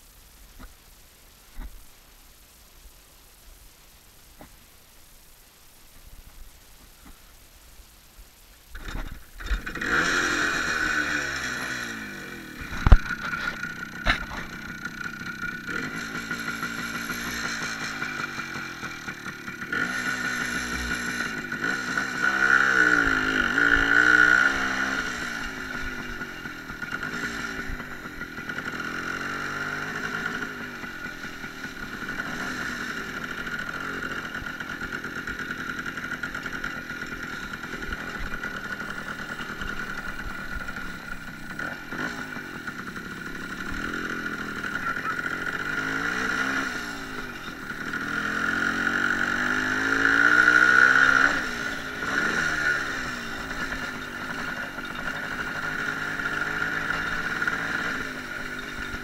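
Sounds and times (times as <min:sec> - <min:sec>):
small motorcycle engine revving: 0:08.8 - 0:59.0.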